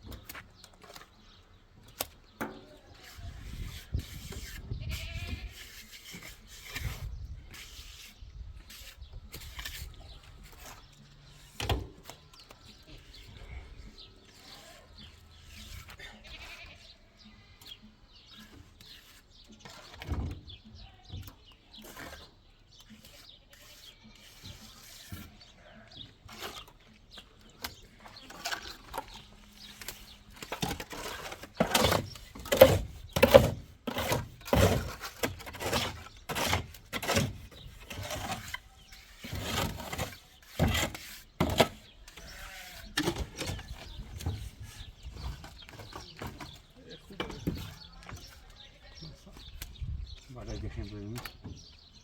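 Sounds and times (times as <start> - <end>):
hand tool knocks and scrapes: 1.8 - 16.7, 17.6 - 48.6.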